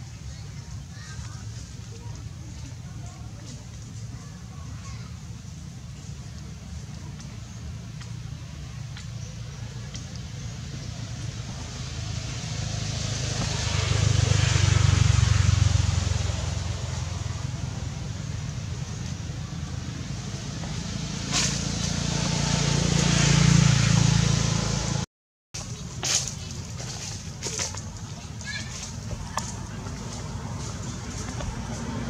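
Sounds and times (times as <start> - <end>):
vehicles passing with engine rumble: 0.0 - 32.0.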